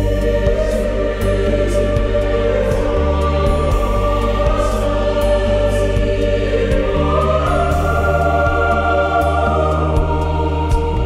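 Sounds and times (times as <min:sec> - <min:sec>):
choral voices holding long notes: 0:00.0 - 0:11.0
stepping bass line: 0:00.0 - 0:11.0.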